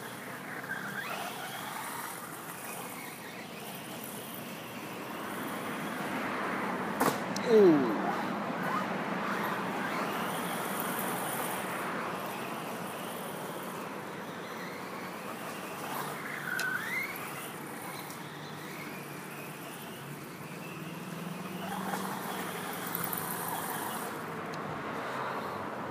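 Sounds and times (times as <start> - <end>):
distant electric motor whining: 0.0 - 25.7.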